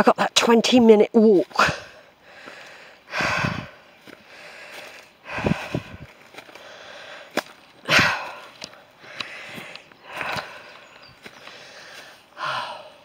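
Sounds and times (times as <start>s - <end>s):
soft footsteps on path: 0.6s - 13.0s
heavy breathing: 1.6s - 13.0s.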